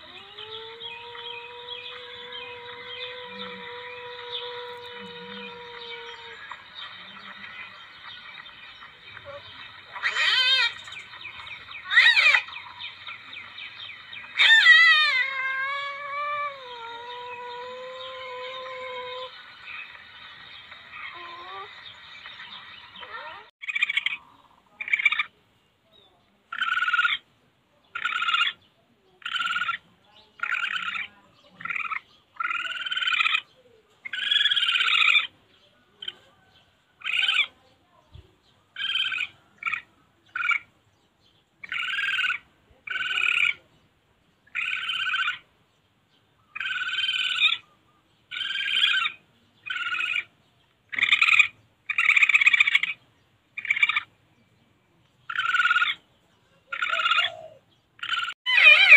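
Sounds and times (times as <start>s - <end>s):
civet calling: 0.0s - 25.3s, 26.5s - 27.2s, 27.9s - 28.6s, 29.2s - 35.4s, 36.0s - 37.6s, 38.8s - 40.7s, 41.6s - 43.7s, 44.5s - 45.5s, 46.4s - 53.0s, 53.6s - 54.1s, 55.3s - 58.9s.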